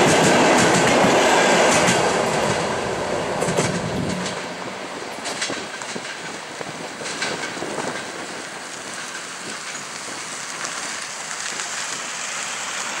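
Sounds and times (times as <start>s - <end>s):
train wheels hissing on rails: 0.0s - 13.0s.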